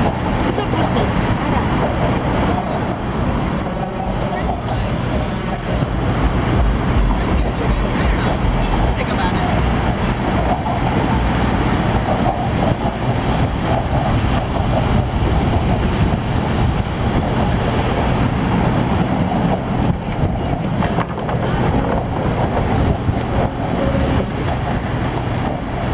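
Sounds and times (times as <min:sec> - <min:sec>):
car traffic rumble: 0:00.0 - 0:25.9
wind noise on microphone: 0:00.0 - 0:25.9.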